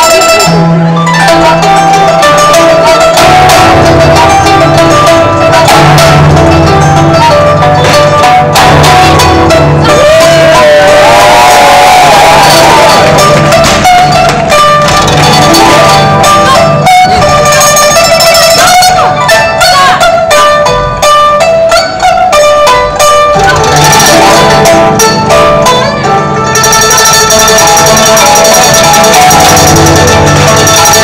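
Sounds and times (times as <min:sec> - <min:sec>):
fast plucked string melody: 0:00.0 - 0:31.0.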